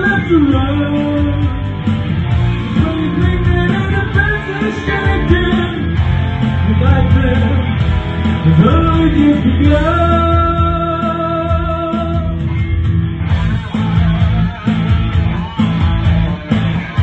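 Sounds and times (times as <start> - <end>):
electric bass: 0.0 - 17.0
electric guitar: 0.0 - 17.0.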